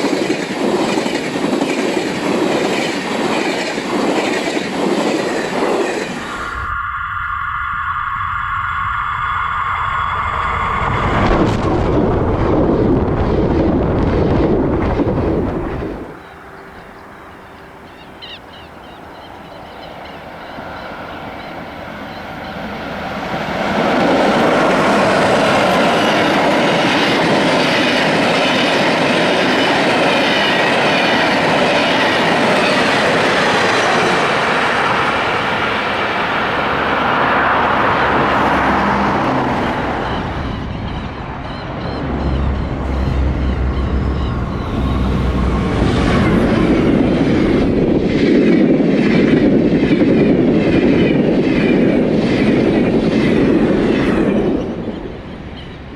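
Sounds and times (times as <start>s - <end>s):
train running on rails: 0.0s - 55.9s.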